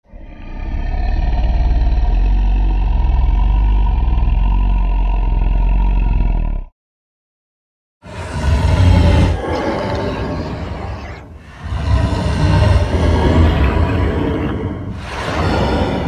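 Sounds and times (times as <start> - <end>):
deep rumbling monster roar: 0.0 - 6.7, 8.0 - 16.0.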